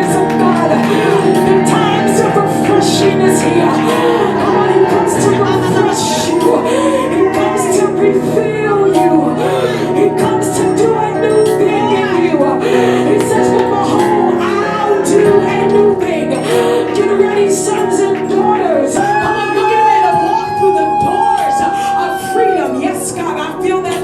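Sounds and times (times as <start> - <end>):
person singing: 0.0 - 24.0
sustained keyboard chords: 0.0 - 24.0.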